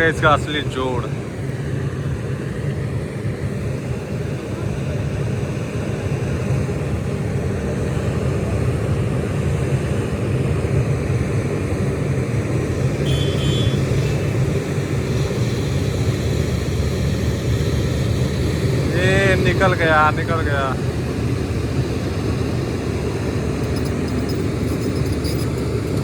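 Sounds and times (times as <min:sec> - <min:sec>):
heavy diesel engines under load: 0:00.0 - 0:26.0.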